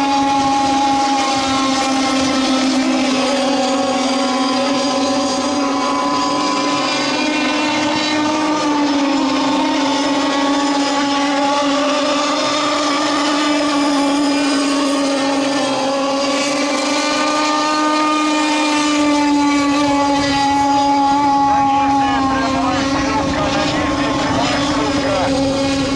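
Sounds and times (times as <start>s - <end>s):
model boat motors whining: 0.0s - 25.9s.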